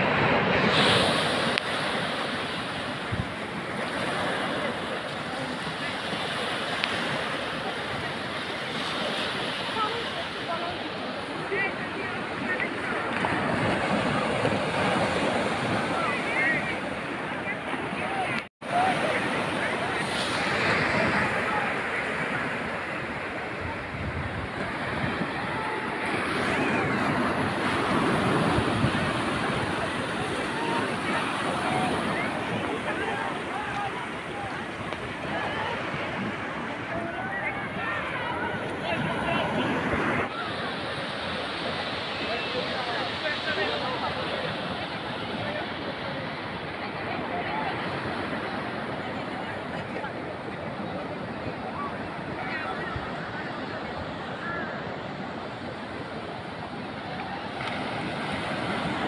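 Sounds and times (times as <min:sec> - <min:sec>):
small waves washing over sand: 0:00.0 - 0:59.0.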